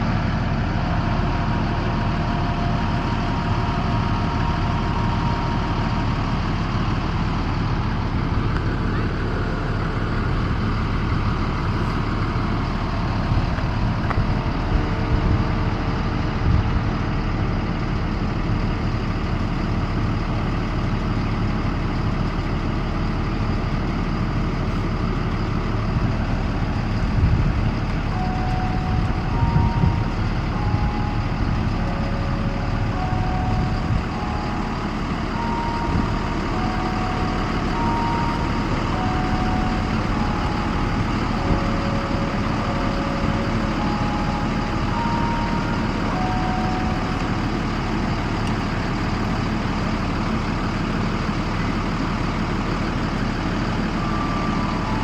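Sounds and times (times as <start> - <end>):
bus engine idling: 0.0 - 55.0.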